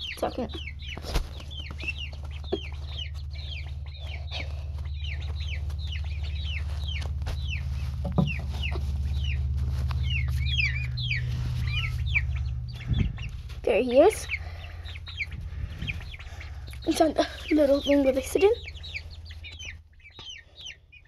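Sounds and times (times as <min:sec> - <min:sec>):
chicks and ducklings peeping: 0:00.0 - 0:21.0
low hum: 0:00.0 - 0:21.0.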